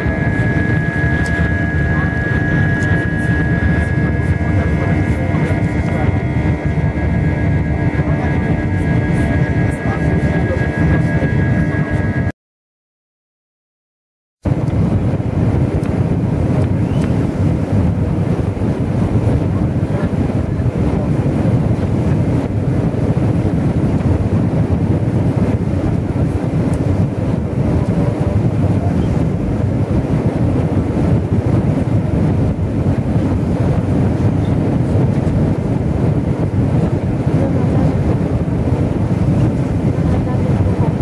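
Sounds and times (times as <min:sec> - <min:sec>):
airliner cabin rumble: 0:00.0 - 0:12.3, 0:14.4 - 0:41.0.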